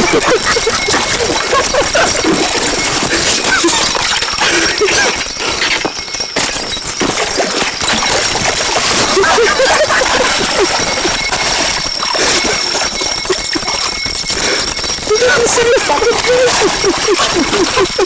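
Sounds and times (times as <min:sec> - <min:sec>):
frogs chirping: 0:03.5 - 0:18.0.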